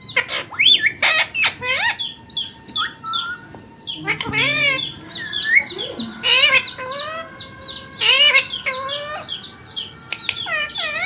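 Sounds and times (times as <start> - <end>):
parrot chirping: 0.0 - 11.0.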